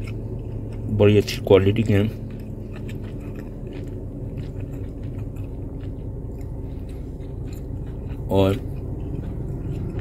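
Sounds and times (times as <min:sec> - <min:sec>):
low background hum: 0:00.0 - 0:10.0
person chewing food: 0:00.0 - 0:10.0.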